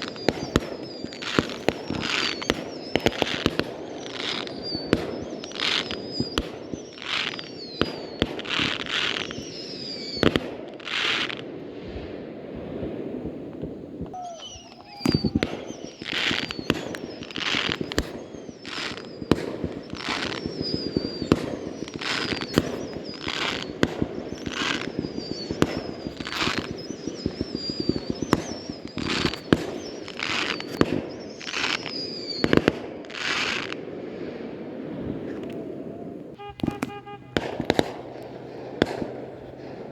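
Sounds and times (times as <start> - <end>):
fireworks bangs and crackles: 0.0 - 39.9
fireworks hissing bursts: 0.0 - 39.9
fireworks whistles gliding down: 0.0 - 39.9.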